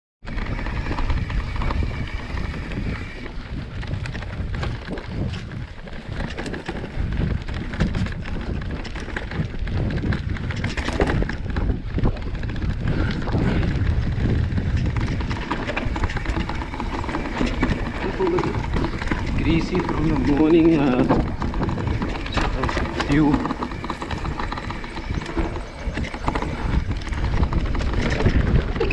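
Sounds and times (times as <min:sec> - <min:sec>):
wind buffeting microphone: 0:00.2 - 0:28.9
small clicks and rattles: 0:00.3 - 0:28.9.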